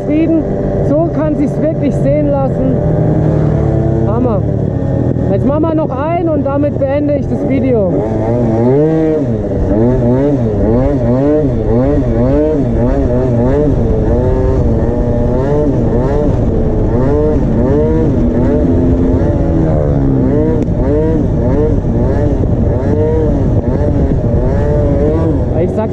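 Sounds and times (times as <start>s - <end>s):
scooter engine revving: 0.0s - 25.9s.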